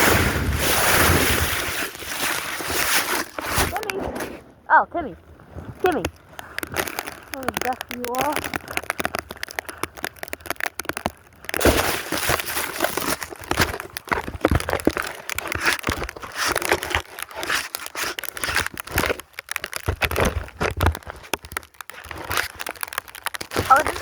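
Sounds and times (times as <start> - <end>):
snow crunching: 0.0 - 24.0.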